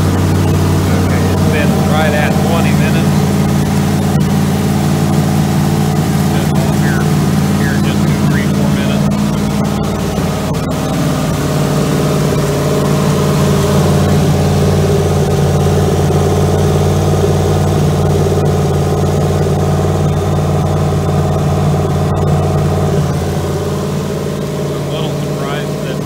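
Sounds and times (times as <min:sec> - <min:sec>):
engine running at fast idle: 0:00.0 - 0:26.0.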